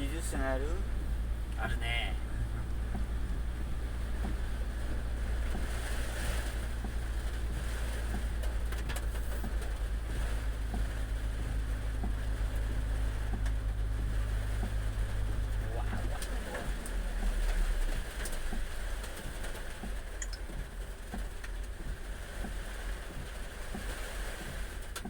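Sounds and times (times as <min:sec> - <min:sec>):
low rumble: 0:00.0 - 0:23.7
heavy rain hissing: 0:00.0 - 0:25.0.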